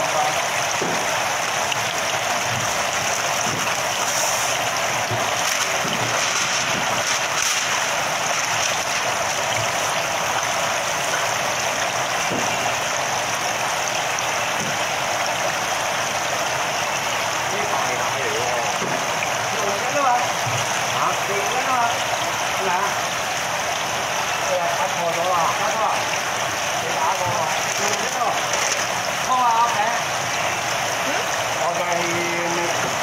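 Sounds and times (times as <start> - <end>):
water jets splashing into tank: 0.0 - 33.0.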